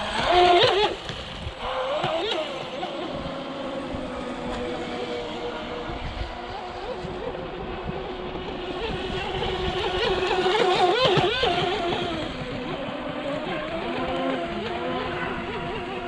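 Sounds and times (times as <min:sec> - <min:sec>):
speedboat motor whine: 0:00.0 - 0:16.0.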